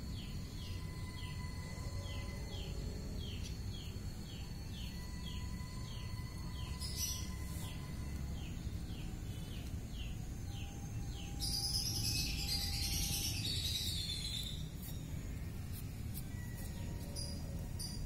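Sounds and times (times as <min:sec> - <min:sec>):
birdsong: 0:00.0 - 0:18.0
low steady rumble: 0:00.0 - 0:18.0.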